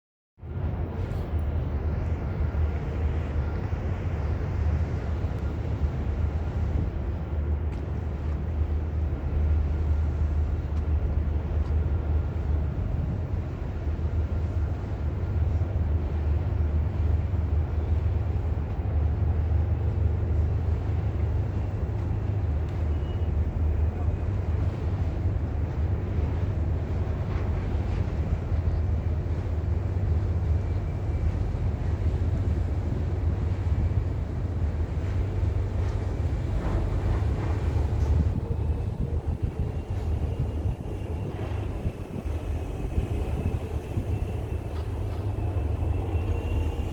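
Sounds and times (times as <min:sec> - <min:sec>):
ferry diesel engines droning: 0:00.4 - 0:46.9.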